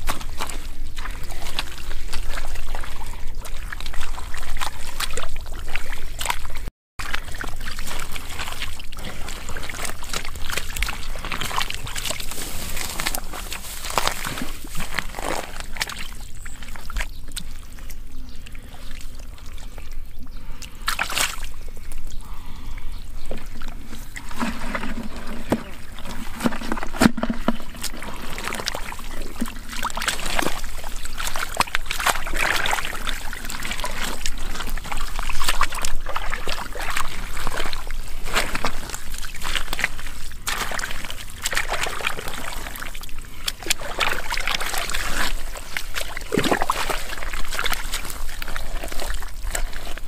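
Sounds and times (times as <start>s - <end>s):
muddy water sloshing and splashing: 0.0s - 50.0s.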